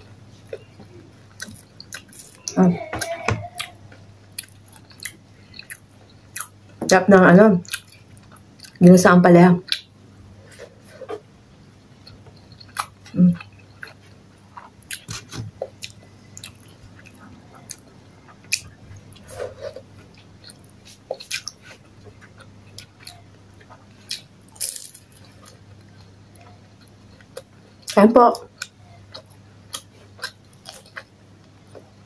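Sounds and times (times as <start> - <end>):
person chewing: 0.3 - 6.8, 7.6 - 8.8, 12.0 - 32.0.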